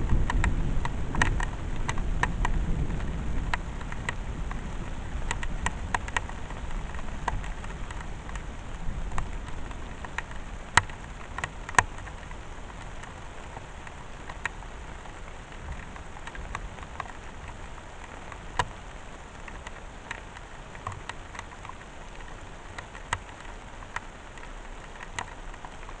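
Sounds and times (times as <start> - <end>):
steady rain falling: 0.0 - 26.0
sharp drip ticks: 0.1 - 26.0.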